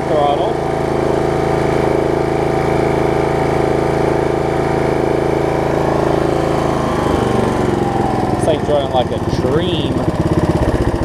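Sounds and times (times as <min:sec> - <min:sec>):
riding mower engine running: 0:00.0 - 0:11.0.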